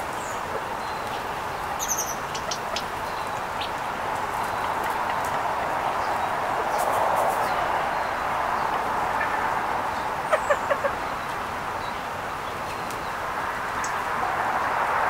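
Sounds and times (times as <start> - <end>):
outdoor background hiss: 0.0 - 15.0
bird calls: 0.2 - 5.4, 6.0 - 13.1.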